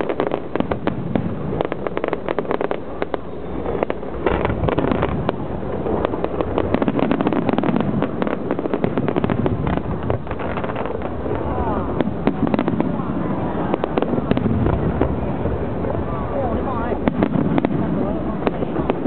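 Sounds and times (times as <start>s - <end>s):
distant fireworks bangs and crackles: 0.0s - 19.0s.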